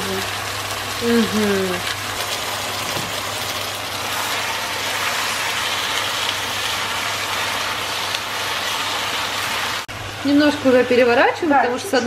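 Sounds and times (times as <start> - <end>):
beef sizzling in a frying pan: 0.0 - 11.8.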